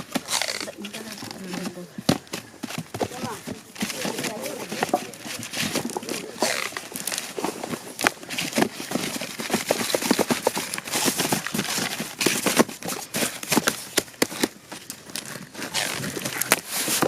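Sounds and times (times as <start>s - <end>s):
cardboard tubes knocking: 0.0s - 14.6s
paper rustling: 0.0s - 17.0s.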